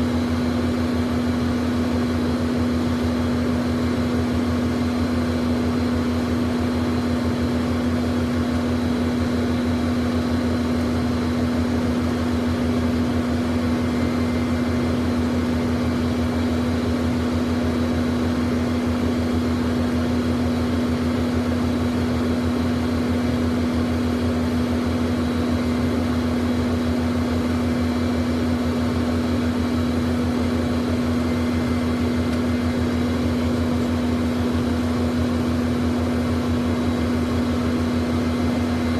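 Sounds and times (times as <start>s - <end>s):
jet engines idling: 0.0s - 38.9s.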